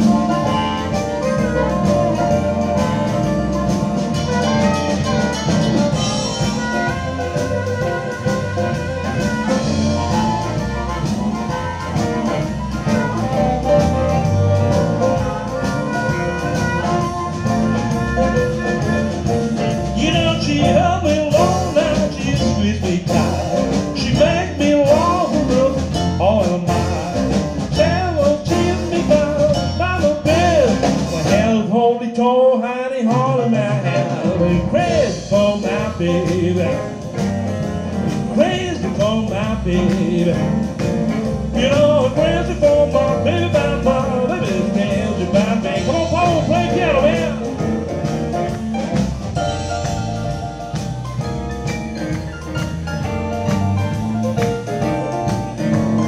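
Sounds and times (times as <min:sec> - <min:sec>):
live blues band playing: 0:00.0 - 0:56.0.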